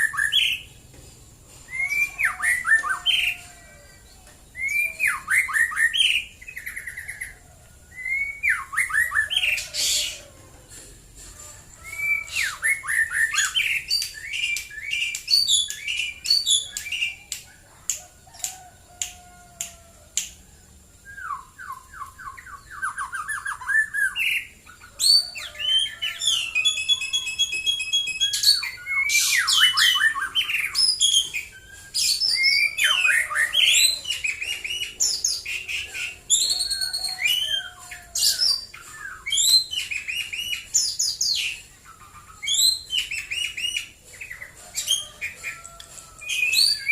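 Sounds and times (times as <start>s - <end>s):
bird singing whistled song: 0.0s - 0.8s, 1.7s - 3.4s, 4.0s - 10.3s, 11.8s - 17.4s, 21.0s - 46.9s.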